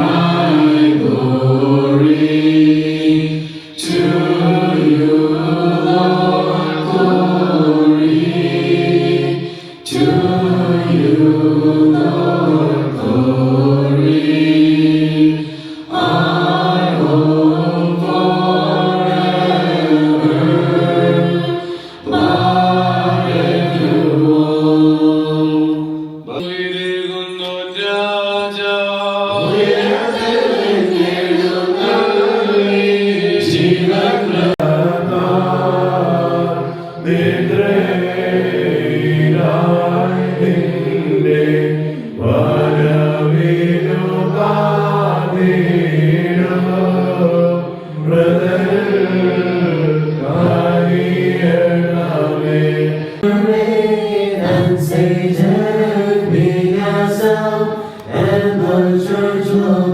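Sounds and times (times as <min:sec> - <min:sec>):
voices chanting a hymn: 0:00.0 - 0:59.9.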